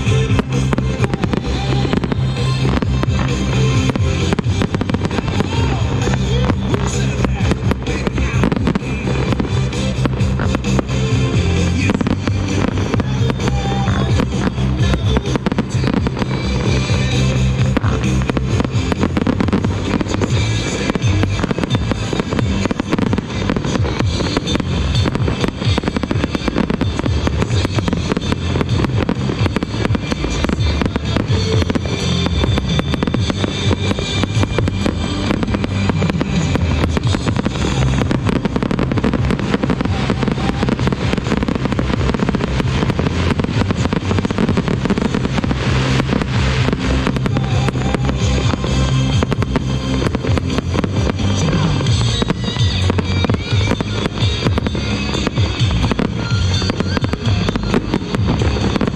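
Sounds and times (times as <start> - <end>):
fireworks bangs and crackles: 0.0 - 58.9
music playing: 0.0 - 58.9.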